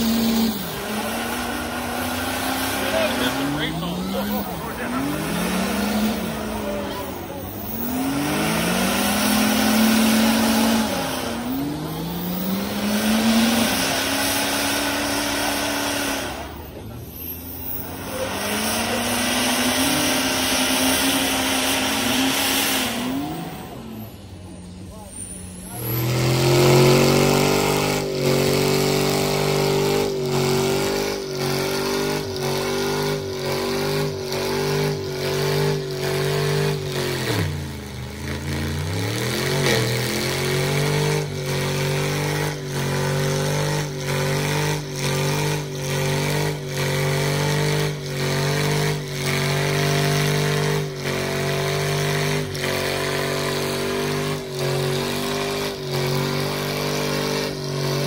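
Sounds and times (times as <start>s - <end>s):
truck engines revving under load: 0.0s - 58.0s.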